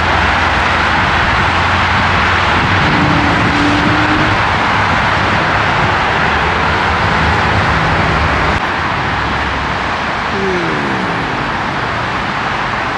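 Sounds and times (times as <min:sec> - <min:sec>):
road traffic roar: 0:00.0 - 0:12.9.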